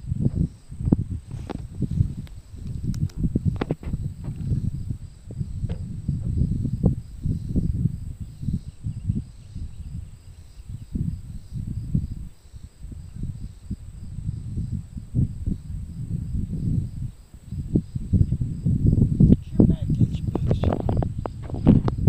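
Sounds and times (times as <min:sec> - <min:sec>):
insects chirping: 0:00.0 - 0:22.0
wind rumble on microphone: 0:00.0 - 0:22.0.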